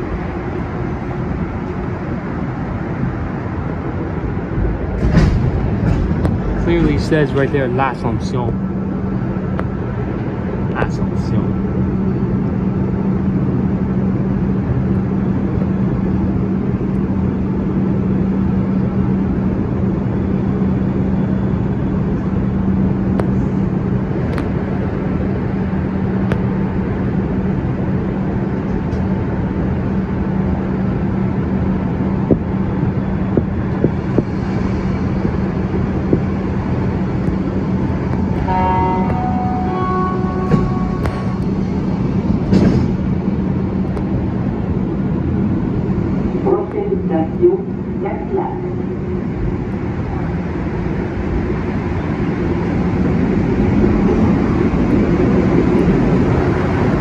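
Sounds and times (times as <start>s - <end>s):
train equipment low hum: 0.0s - 57.0s.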